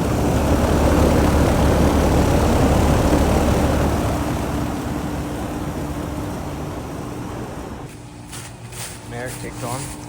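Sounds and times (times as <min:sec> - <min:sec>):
compressor hum: 0:00.0 - 0:10.0
condenser fan blowing: 0:00.0 - 0:10.0.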